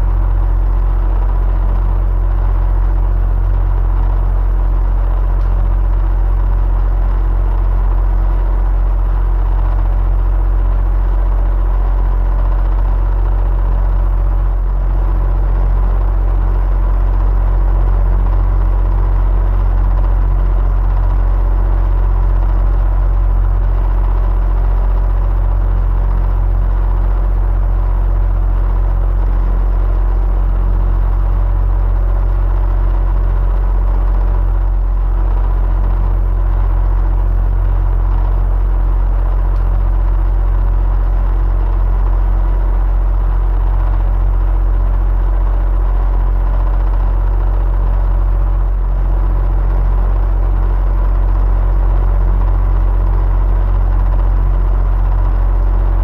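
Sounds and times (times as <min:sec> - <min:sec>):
faint motor hum: 0:00.0 - 0:56.0.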